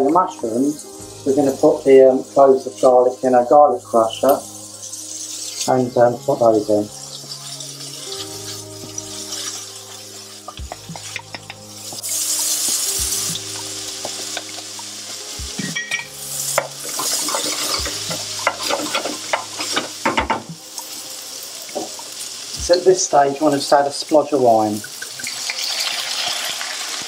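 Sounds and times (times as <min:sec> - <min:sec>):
vegetables sizzling in frying pan: 0:00.0 - 0:27.0.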